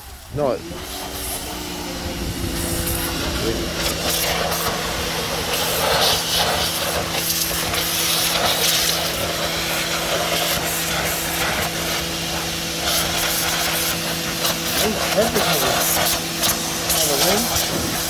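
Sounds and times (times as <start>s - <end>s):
pressure washer motor hum: 0.0s - 18.0s
water jet spraying wheel: 0.0s - 18.0s.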